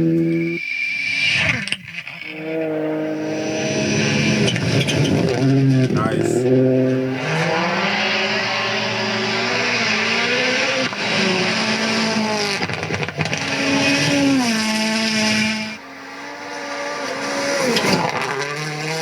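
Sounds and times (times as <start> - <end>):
rally car engine revving: 1.4 - 19.0.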